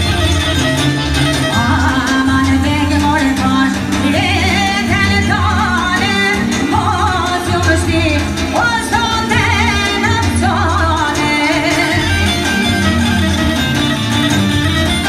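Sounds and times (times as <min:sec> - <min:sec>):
woman singing with vibrato: 0:00.0 - 0:13.7
live band accompaniment: 0:00.0 - 0:15.0.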